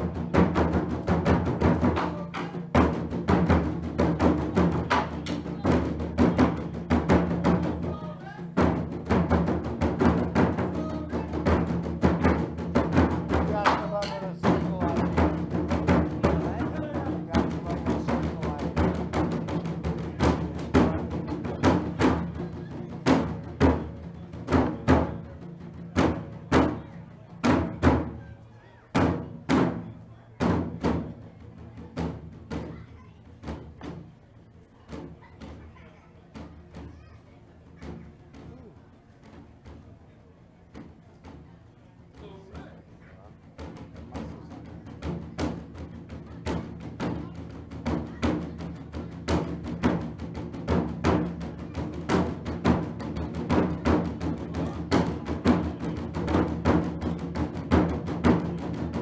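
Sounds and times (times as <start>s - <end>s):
music with heavy drum beat: 0.0s - 28.3s, 28.9s - 32.8s, 42.4s - 59.0s.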